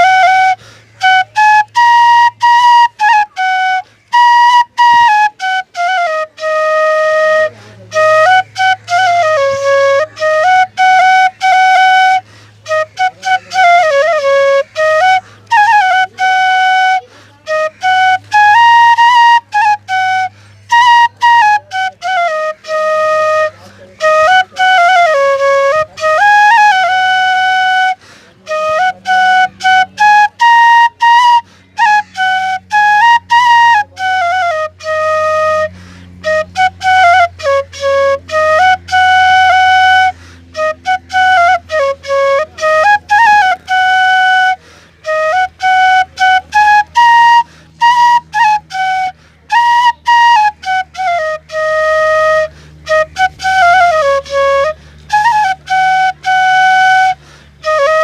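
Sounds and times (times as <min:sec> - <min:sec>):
bamboo flute melody: 0:00.0 - 0:58.0.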